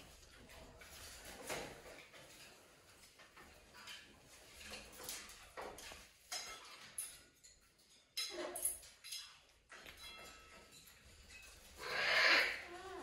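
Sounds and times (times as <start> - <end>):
claws rattling wire birdcage: 0.0 - 13.0.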